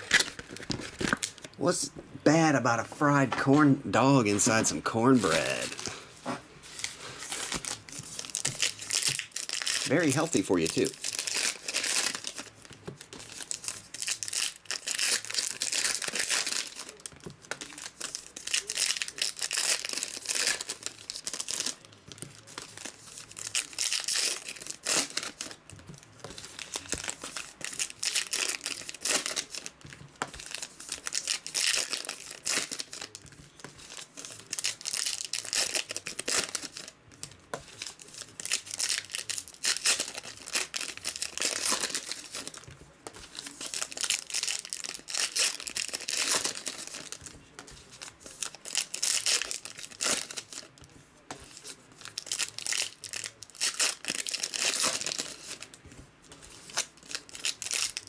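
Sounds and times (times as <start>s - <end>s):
foil wrappers crinkling and tearing: 0.0s - 1.7s, 4.0s - 6.0s, 6.6s - 58.0s.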